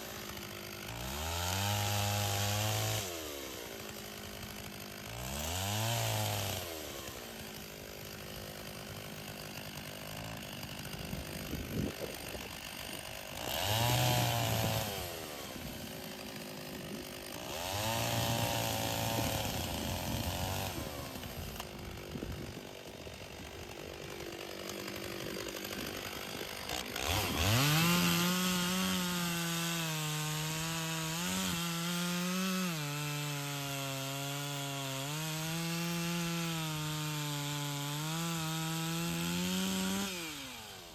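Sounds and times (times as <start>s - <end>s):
chainsaw cutting log: 0.0s - 40.9s
chainsaw idling and revving: 0.0s - 40.9s.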